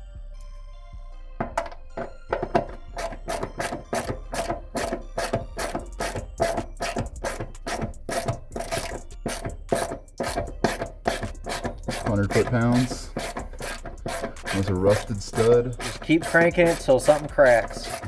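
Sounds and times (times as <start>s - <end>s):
ratchet wrench rasping: 1.4s - 18.0s.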